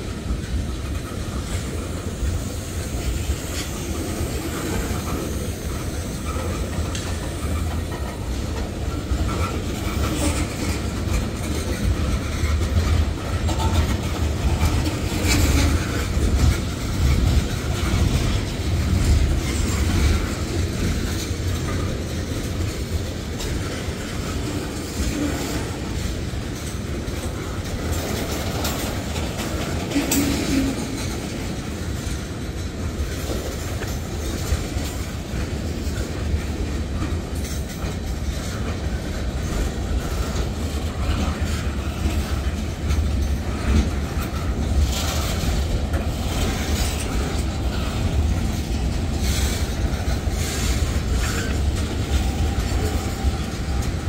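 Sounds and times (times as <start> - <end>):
freight train rumbling past: 0.0 - 54.0
train wheels clicking and clanking: 0.0 - 54.0.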